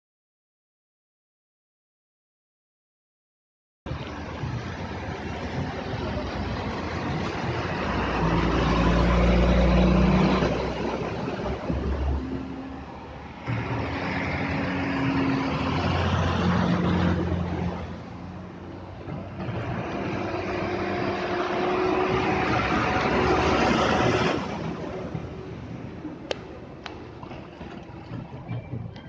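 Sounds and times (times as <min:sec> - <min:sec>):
tyres rushing through water: 0:03.9 - 0:29.0
vehicle engine hum: 0:03.9 - 0:29.0.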